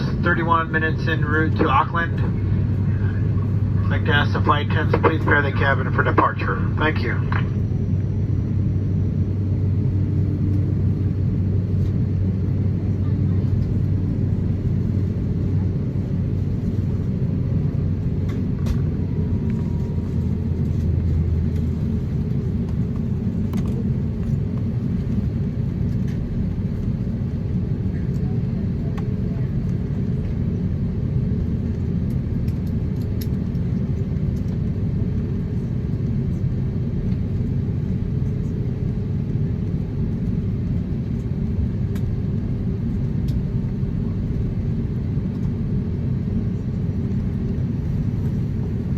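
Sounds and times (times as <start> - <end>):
airplane cabin rumble: 0.0 - 48.9.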